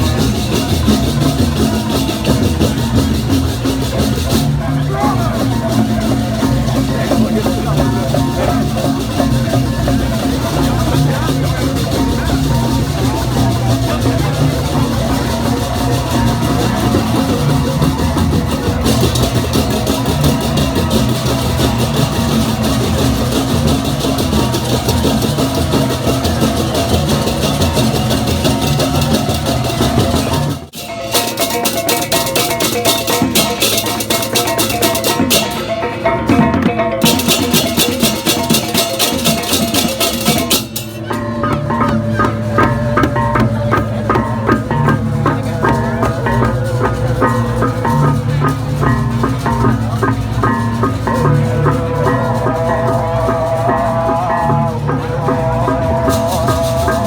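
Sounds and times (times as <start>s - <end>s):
clashing metallic percussion: 0.0s - 57.0s
drums: 0.0s - 57.0s
gongs: 0.0s - 57.0s.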